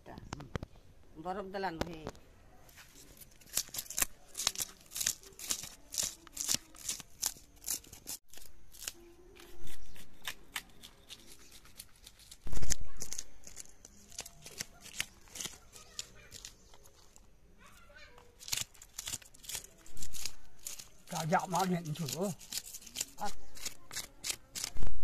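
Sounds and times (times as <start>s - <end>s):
knife scraping fish scales: 2.9s - 16.8s, 18.4s - 24.9s.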